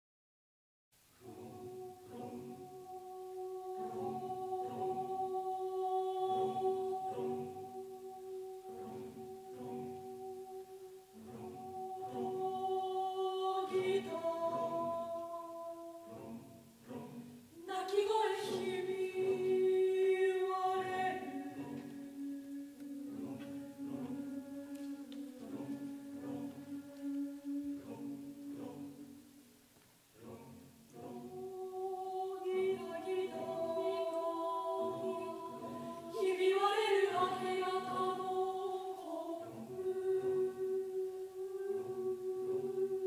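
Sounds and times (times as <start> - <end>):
mixed choir singing: 1.2 - 43.0.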